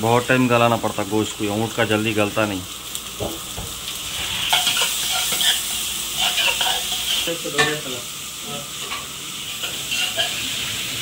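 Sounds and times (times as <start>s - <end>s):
onions sizzling in fat: 0.0s - 11.0s.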